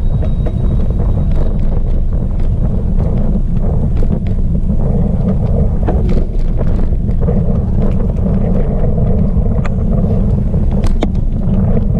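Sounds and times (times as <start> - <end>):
wind buffeting microphone: 0.0 - 11.9
small clicks and rattles: 0.2 - 11.9.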